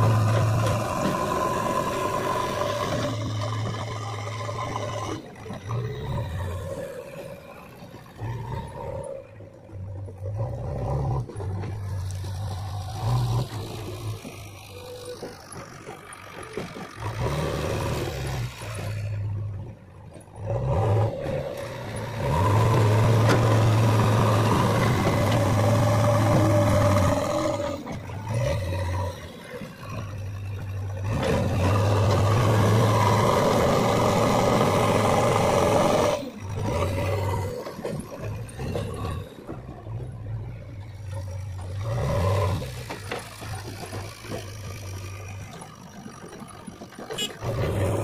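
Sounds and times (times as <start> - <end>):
backhoe diesel engine running: 0.0 - 48.0.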